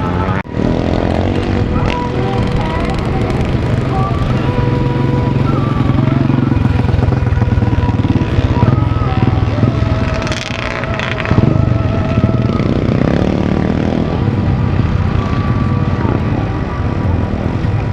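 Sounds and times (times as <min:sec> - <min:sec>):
motocross bikes revving: 0:00.0 - 0:17.9.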